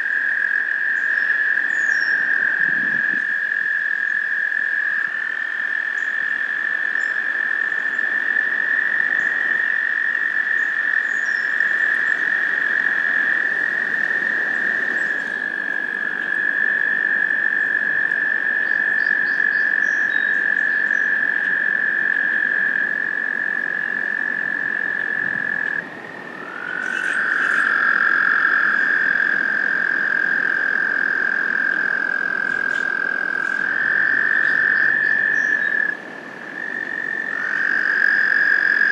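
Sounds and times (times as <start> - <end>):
toads trilling: 0.0 - 25.8, 26.4 - 36.0, 36.6 - 38.9.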